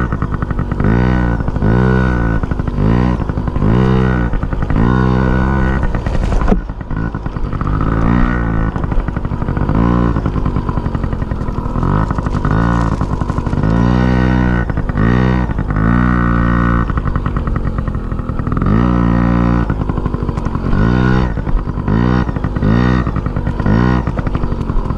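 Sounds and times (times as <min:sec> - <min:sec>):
engine revving: 0:00.0 - 0:24.9.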